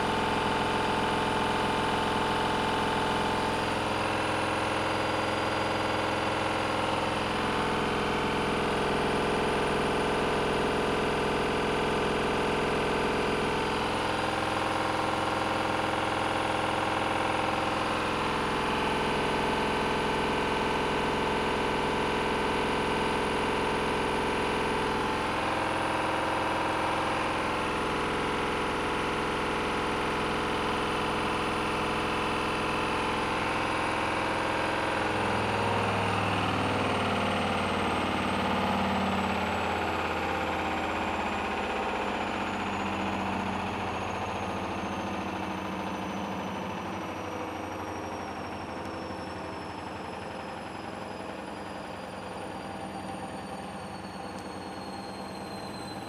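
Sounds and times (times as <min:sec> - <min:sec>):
high motor whine: 0:00.0 - 0:56.0
washing machine spinning: 0:00.0 - 0:56.0.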